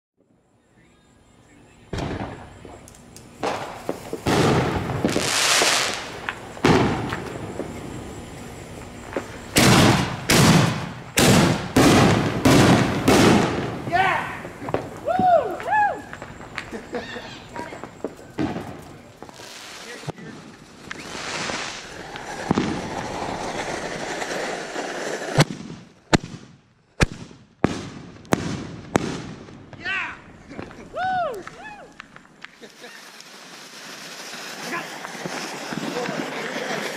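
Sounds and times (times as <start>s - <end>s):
fireworks booming: 1.6s - 36.9s.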